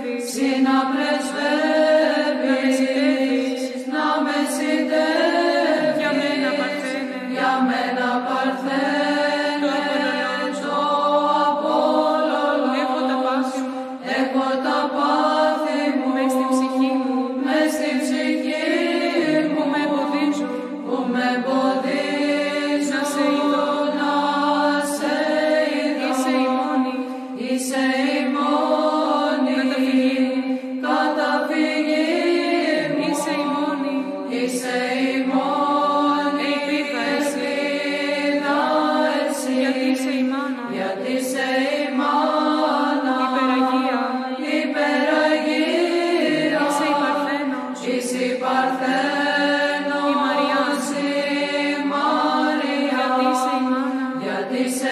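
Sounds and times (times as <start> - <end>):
held low vocal drone: 0.0 - 54.9
voices singing a slow hymn: 0.0 - 54.9.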